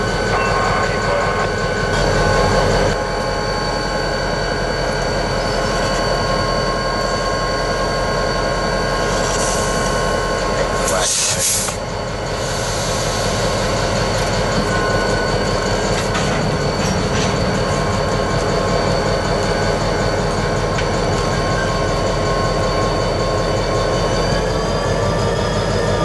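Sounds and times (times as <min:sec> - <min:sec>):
diesel locomotive engine drone: 0:00.0 - 0:26.0
high whining tones: 0:00.0 - 0:26.0.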